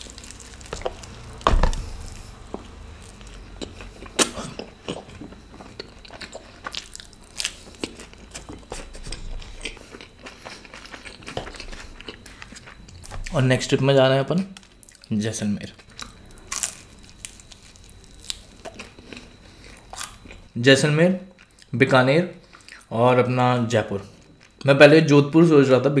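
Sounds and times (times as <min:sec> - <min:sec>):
chewing with crackling crunches: 0:00.0 - 0:20.5, 0:21.3 - 0:21.8, 0:22.4 - 0:22.9, 0:24.0 - 0:24.7.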